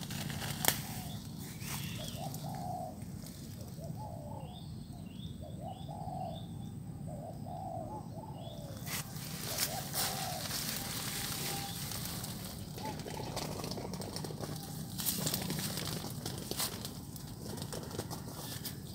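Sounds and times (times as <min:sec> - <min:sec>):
doves cooing: 0:00.0 - 0:18.9.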